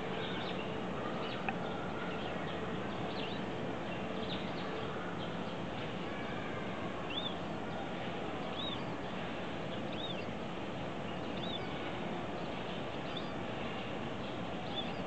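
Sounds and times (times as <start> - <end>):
birds chirping high: 0.0 - 15.0
steady background hiss: 0.0 - 15.0.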